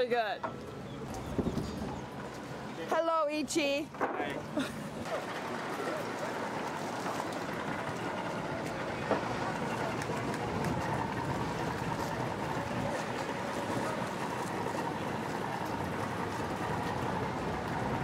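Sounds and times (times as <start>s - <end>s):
boat motor running: 0.4s - 18.0s.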